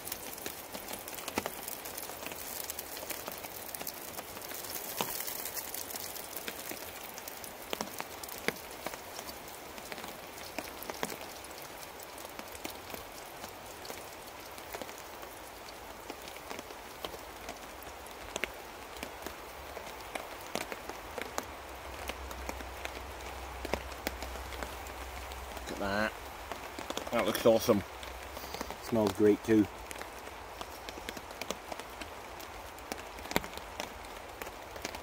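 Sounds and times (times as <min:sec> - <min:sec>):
rain on a tarp: 0:00.0 - 0:35.0.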